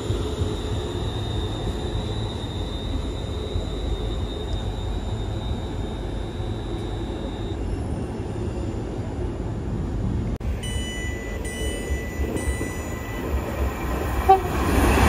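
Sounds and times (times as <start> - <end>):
thin high whine: 0.0 - 8.6, 10.4 - 15.0
train rumbling past: 0.0 - 15.0.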